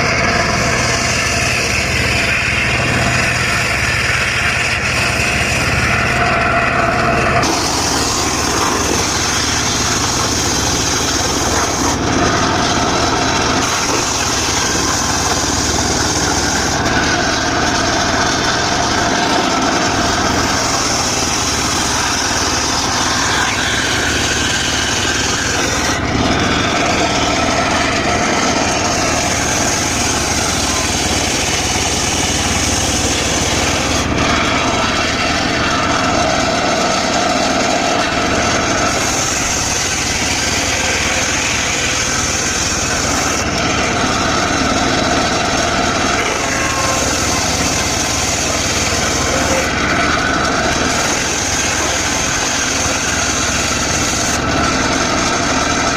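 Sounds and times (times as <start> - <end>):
circular saw cutting wood: 0.0 - 55.9.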